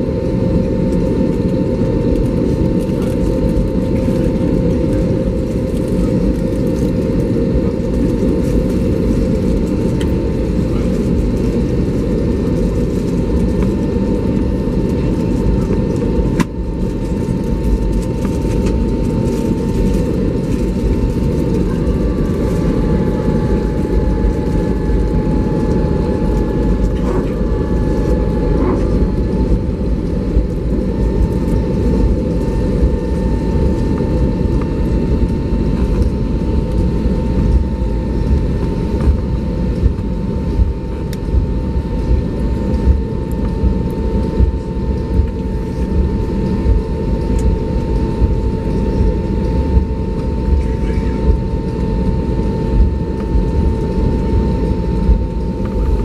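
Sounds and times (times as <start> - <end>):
aircraft cabin rumble: 0.0 - 56.0
thin steady whine: 0.0 - 56.0.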